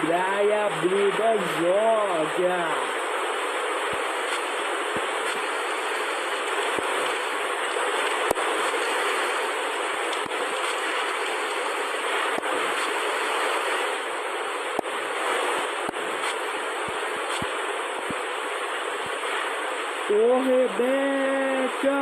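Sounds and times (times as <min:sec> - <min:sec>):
steady rushing hiss: 0:00.0 - 0:22.0.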